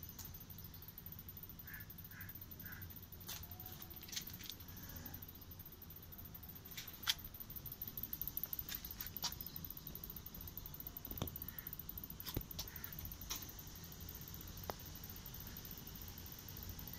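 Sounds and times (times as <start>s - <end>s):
low background noise: 0.0s - 16.9s.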